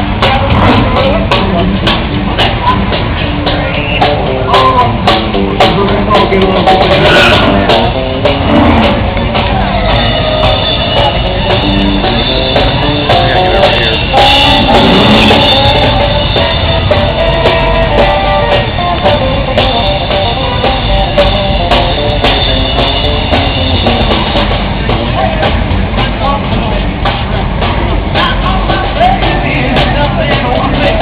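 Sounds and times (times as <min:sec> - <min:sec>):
drum hits: 0:00.0 - 0:31.0
loud rock music: 0:00.0 - 0:31.0
rush of noise: 0:00.0 - 0:31.0.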